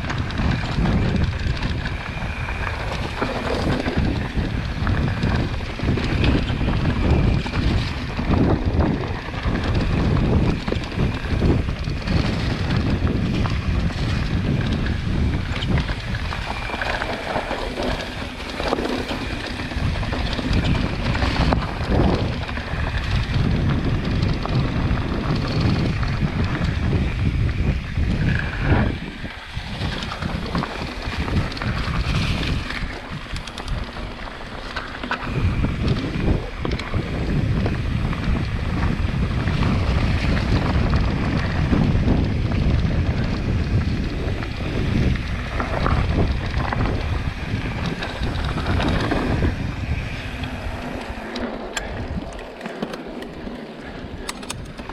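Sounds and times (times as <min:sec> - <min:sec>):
bike rattling over bumps: 0:00.0 - 0:54.9
wind buffeting microphone: 0:00.0 - 0:54.9.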